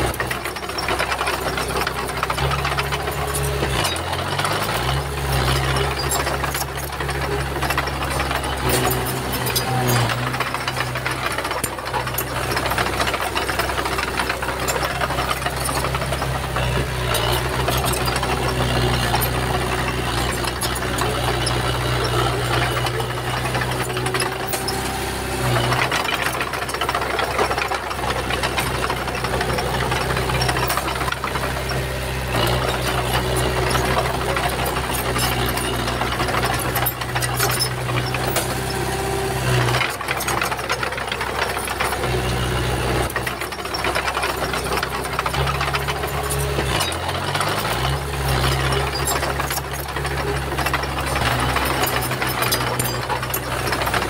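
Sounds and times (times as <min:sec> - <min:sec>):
bulldozer diesel engine running: 0:00.0 - 0:54.0
clanks and rattles: 0:00.0 - 0:54.0.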